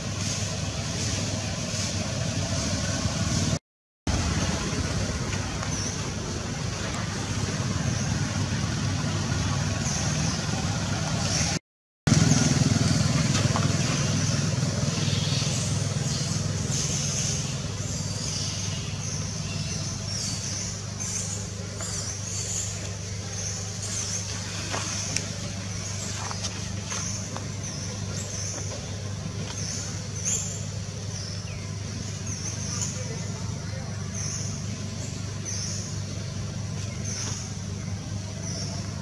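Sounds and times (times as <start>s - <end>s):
vehicle engine rumbling: 0.0s - 39.0s.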